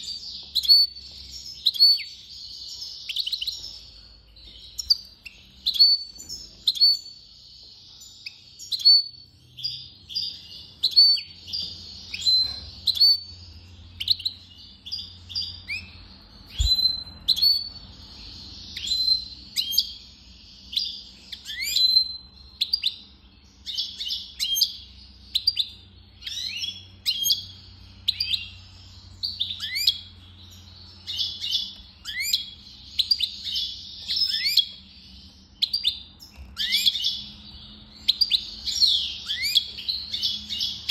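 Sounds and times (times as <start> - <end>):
goldfinch singing: 0.0 - 40.9.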